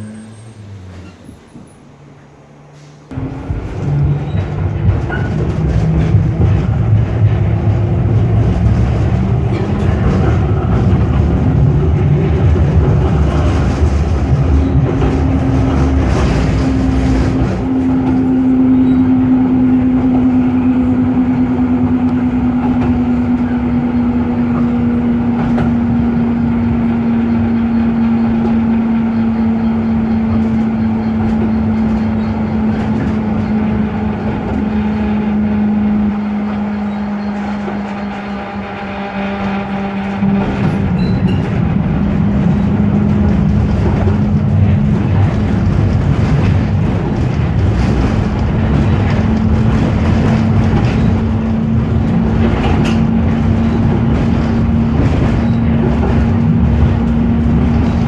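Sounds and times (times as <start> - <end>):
tram rolling on rails: 0.0 - 58.0.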